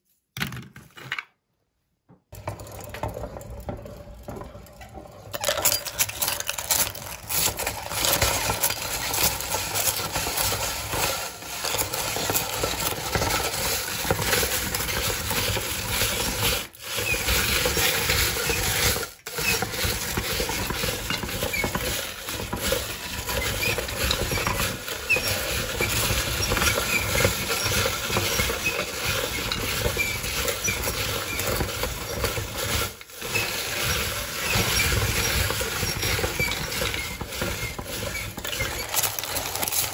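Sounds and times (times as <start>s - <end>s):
meat grinder crunching: 2.4s - 39.9s.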